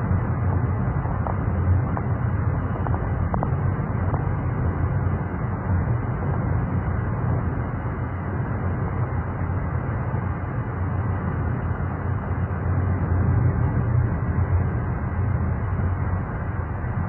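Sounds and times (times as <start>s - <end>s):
loud outdoor rumble: 0.0s - 17.0s.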